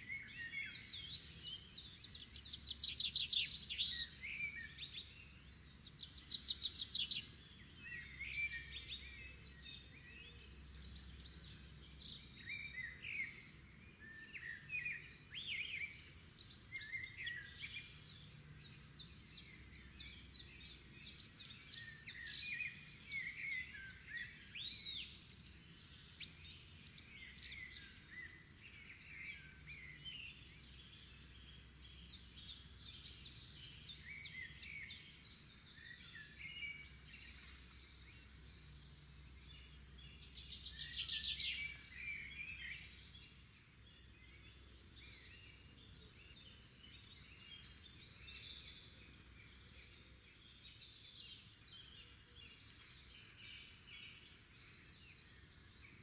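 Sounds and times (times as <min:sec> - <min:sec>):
songbirds singing and calling: 0:00.0 - 0:56.0.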